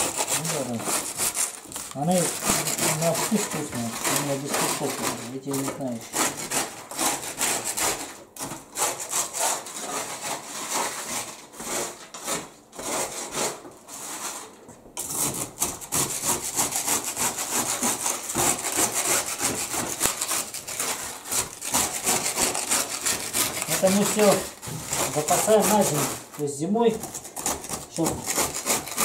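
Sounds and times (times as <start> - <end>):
dried fish scraping on metal trays: 0.0 - 29.0.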